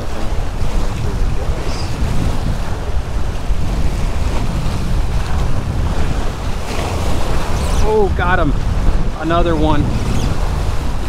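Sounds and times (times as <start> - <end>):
waves splashing against rocks: 0.0 - 11.0
wind buffeting microphone: 0.0 - 11.0.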